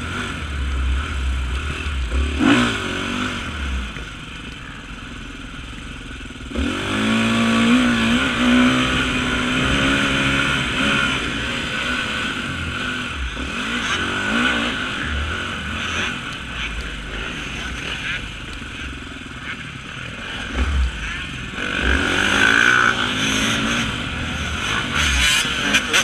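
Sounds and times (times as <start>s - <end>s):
motorcycle engine revving hard: 0.0s - 4.2s, 5.7s - 26.0s.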